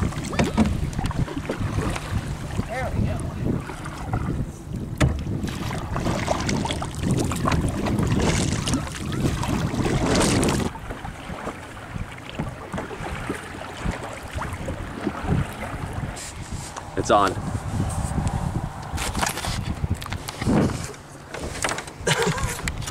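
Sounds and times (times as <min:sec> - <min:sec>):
water lapping against canoe: 0:00.0 - 0:22.9
wind buffeting microphone: 0:00.0 - 0:22.9.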